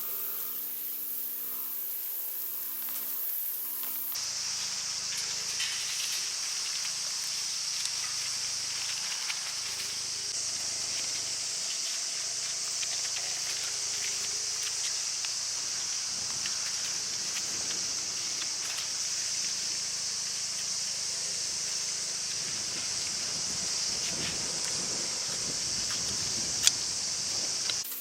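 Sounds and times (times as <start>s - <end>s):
steady high-pitched hiss: 0.0s - 28.0s.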